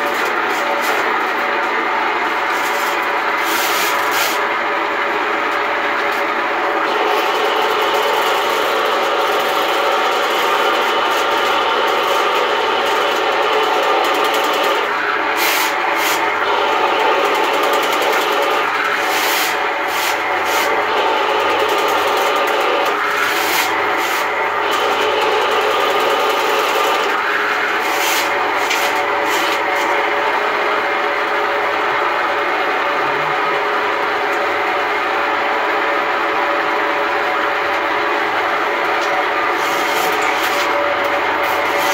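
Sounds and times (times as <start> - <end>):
sewer machine running: 0.0 - 41.9
spinning cable noisy bursts: 0.0 - 41.9.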